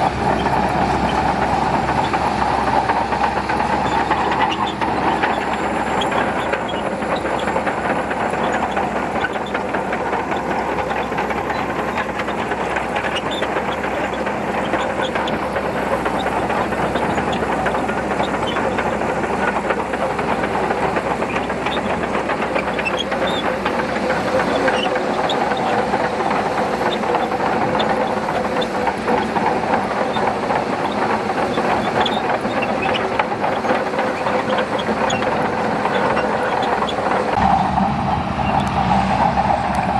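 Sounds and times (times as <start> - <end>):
bulldozer diesel engine: 0.0 - 39.9
steel tracks clattering: 0.0 - 39.9.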